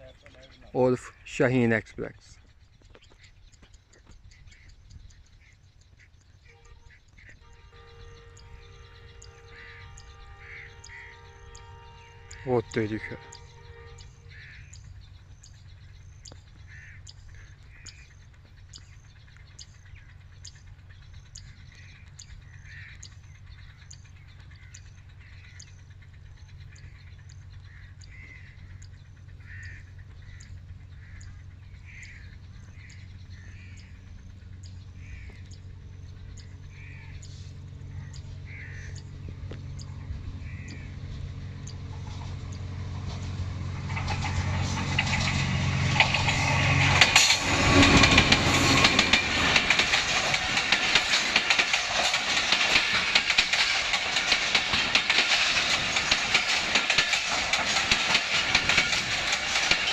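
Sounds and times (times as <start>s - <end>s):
birds calling: 0.0s - 59.9s
locomotive engine drone: 0.0s - 59.9s.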